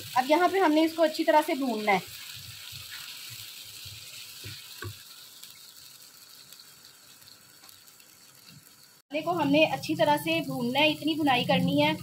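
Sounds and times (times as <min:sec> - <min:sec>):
ghee sizzling in a pan: 0:00.0 - 0:12.0.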